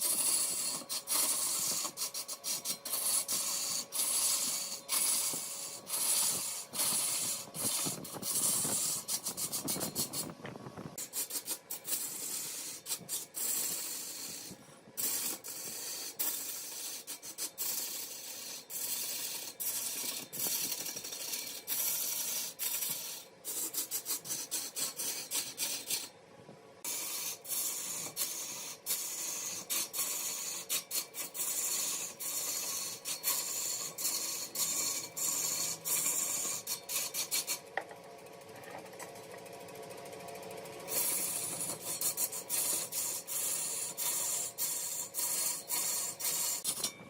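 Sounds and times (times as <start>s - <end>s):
tool scraping wood on lathe: 0.0s - 26.1s, 26.8s - 39.1s, 40.8s - 47.0s.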